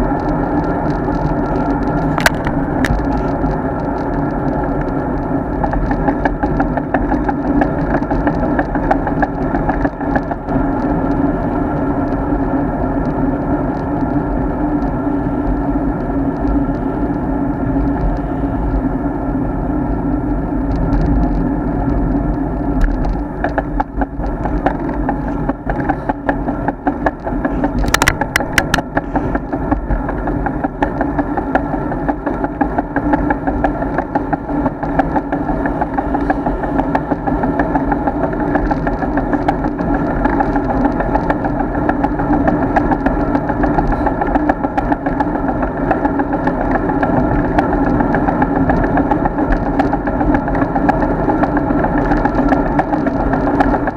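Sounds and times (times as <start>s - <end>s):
small ticks from road: 0.0s - 53.9s
tyre and wind hum: 0.0s - 53.9s.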